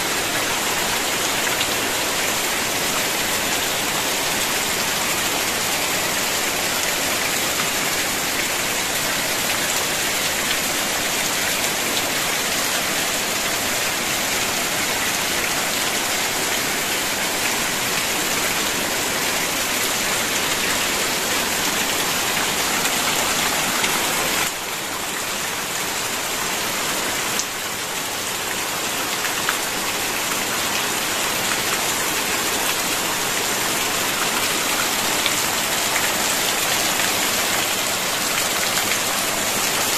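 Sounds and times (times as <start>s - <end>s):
heavy rain on roof tiles: 0.0s - 39.9s.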